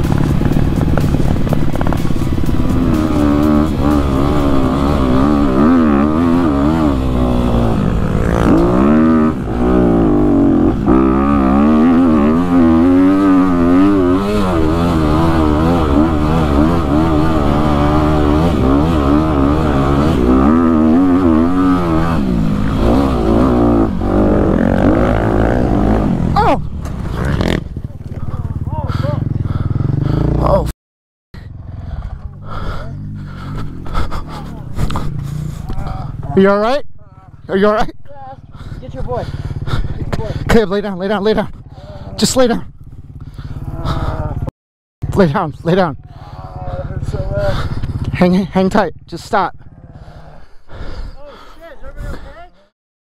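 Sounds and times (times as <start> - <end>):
dirt bike engine revving: 0.0 - 30.7, 31.4 - 36.5, 38.4 - 50.6.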